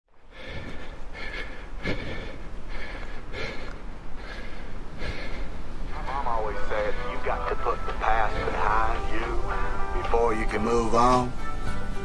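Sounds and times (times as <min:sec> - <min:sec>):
heavy rhythmic breathing: 0:00.1 - 0:12.0.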